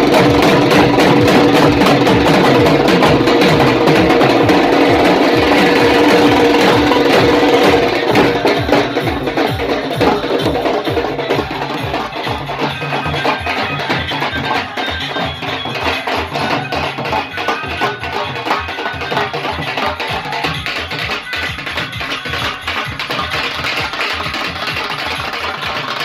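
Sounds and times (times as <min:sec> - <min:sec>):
fast drum beats: 0:00.0 - 0:26.0.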